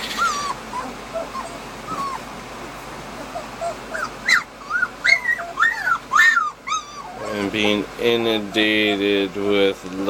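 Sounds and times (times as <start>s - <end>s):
puppies whining: 0.0s - 9.8s.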